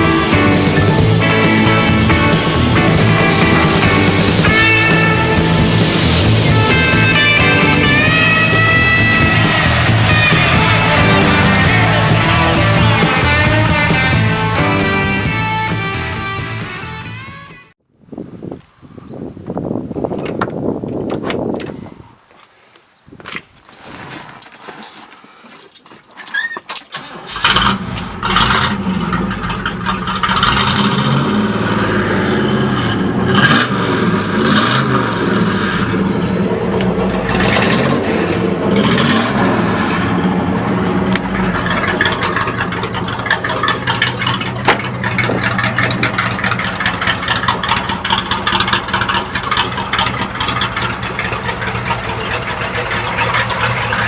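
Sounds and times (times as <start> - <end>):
car engine cranking and starting: 0.0 - 17.1, 19.7 - 21.9, 26.3 - 54.0
car engine idling: 0.0 - 17.3, 27.0 - 54.0.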